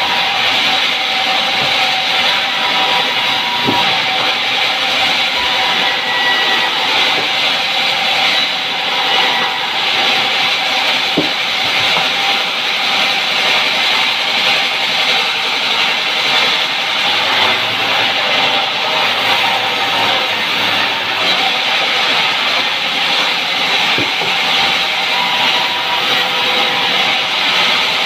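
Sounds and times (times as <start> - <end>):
band saw cutting log: 0.0 - 28.0.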